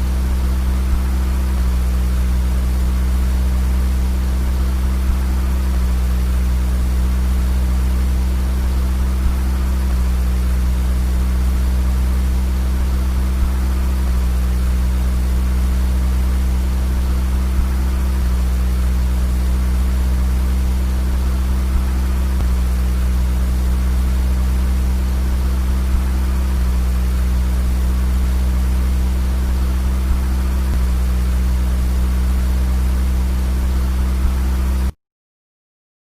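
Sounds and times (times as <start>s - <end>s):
car engine and road drone: 0.0s - 35.0s.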